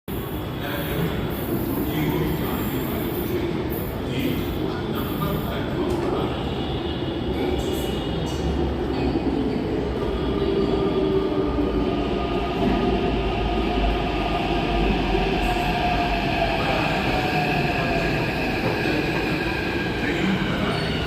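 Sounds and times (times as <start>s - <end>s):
train rumbling on rails: 0.1s - 21.0s.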